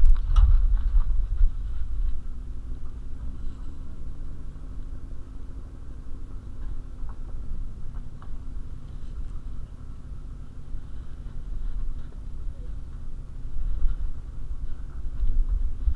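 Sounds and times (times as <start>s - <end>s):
vehicle rumbling over rough dirt road: 0.0s - 15.9s.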